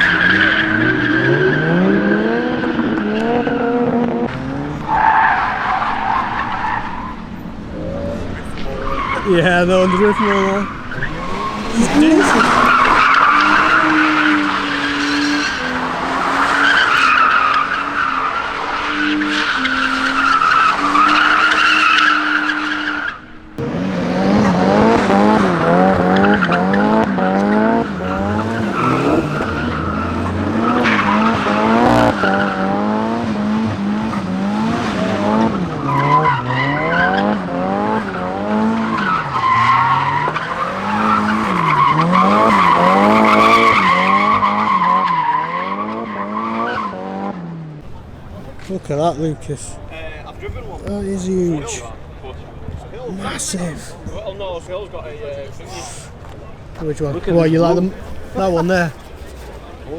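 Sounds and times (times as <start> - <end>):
tyres squealing: 0.0 - 4.0, 4.7 - 23.5, 25.2 - 33.2, 34.0 - 47.0, 55.5 - 59.9
car engines revving: 0.0 - 59.9.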